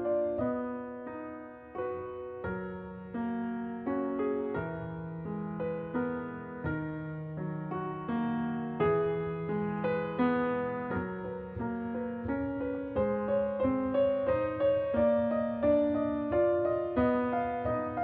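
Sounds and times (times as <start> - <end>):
slow piano piece: 0.0 - 18.0.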